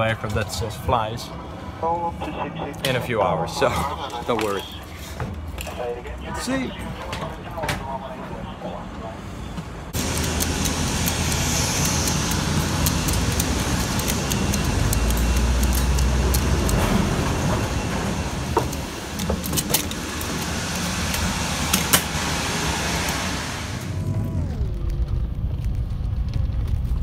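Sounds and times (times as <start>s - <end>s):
bus engine and road rumble: 0.0s - 27.0s
falling whine: 0.0s - 27.0s.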